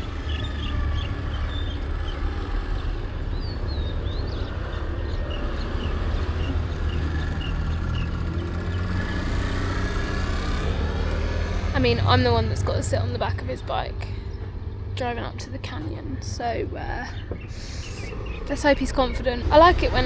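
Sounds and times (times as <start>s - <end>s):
motorbike engine rumbling: 0.0s - 20.0s.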